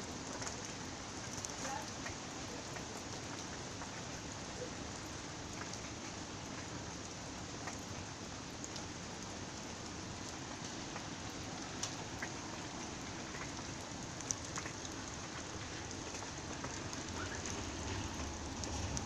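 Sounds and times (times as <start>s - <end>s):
loud raindrops striking nearby: 0.0s - 19.0s
steady rain falling: 0.0s - 19.0s.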